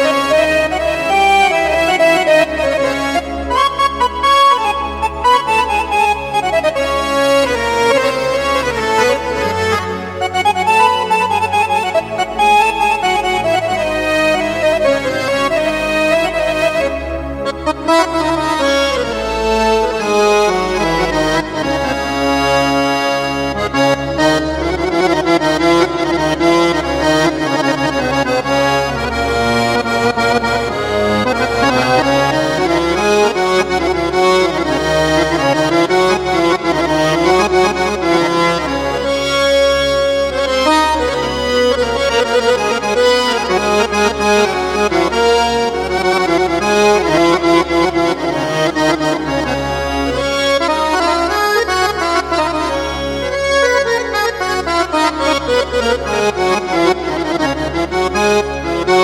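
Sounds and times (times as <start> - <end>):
keyboard accordion melody: 0.0 - 59.0.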